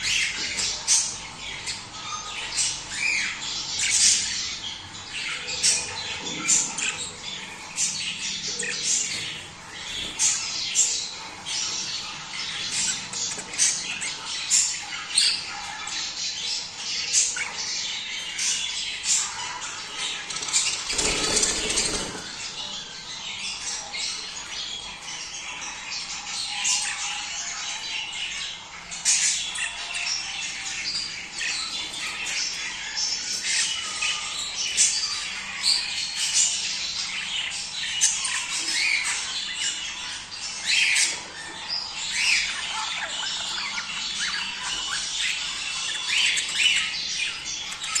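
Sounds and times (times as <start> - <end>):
budgerigars chattering: 0.0 - 48.0.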